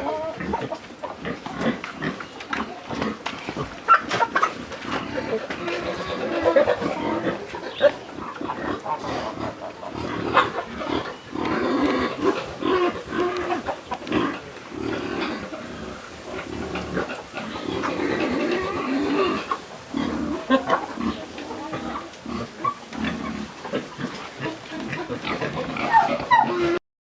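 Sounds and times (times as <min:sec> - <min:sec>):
pigs grunting: 0:00.0 - 0:26.8.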